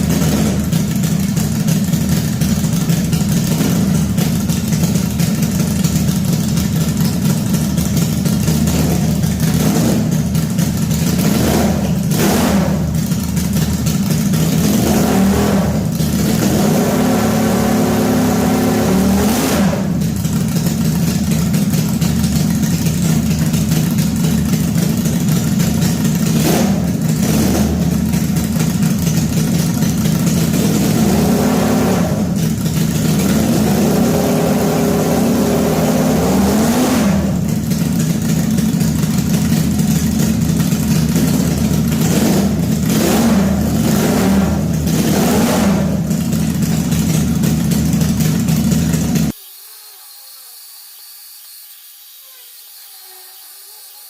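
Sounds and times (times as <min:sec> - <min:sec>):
engine running and revving: 0:00.0 - 0:49.4.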